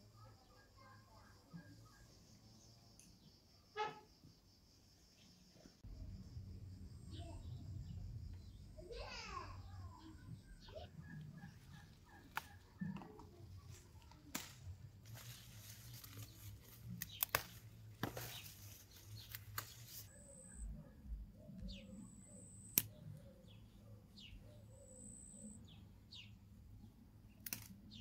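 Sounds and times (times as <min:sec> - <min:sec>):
small bird chirping: 0:00.1 - 0:14.1, 0:15.1 - 0:28.0.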